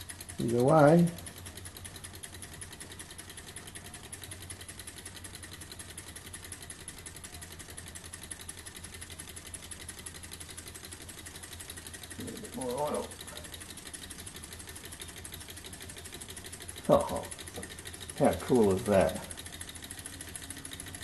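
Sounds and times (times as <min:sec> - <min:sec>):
engine clicking rattle: 0:00.0 - 0:21.0.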